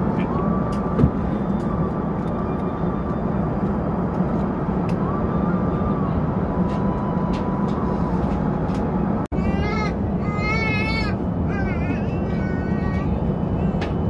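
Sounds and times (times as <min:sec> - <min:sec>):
airplane cabin airflow and engine noise: 0:00.0 - 0:14.0.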